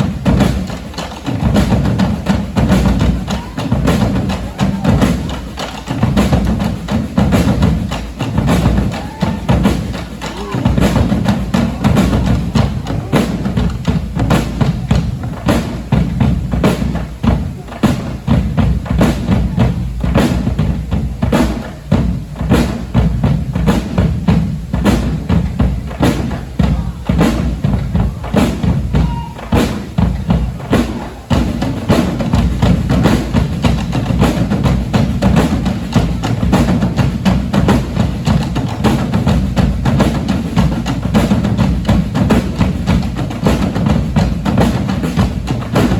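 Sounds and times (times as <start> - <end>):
deep bass drums: 0.0 - 5.4, 6.0 - 45.9
sharp drum strikes: 0.0 - 45.9.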